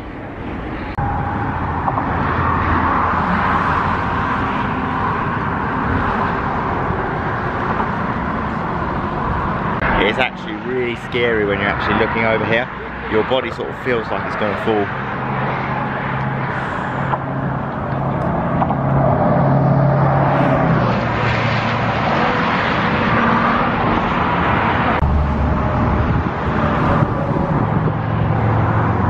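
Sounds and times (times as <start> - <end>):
freeway traffic passing: 0.0 - 29.0.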